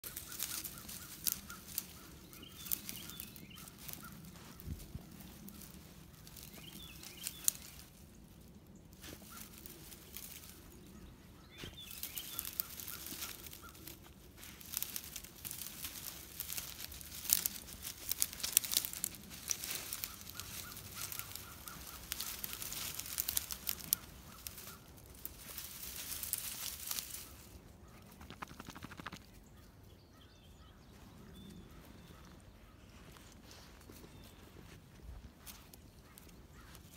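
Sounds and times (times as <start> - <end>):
dry brush crackling and rustling: 0.0 - 29.4, 30.7 - 36.9.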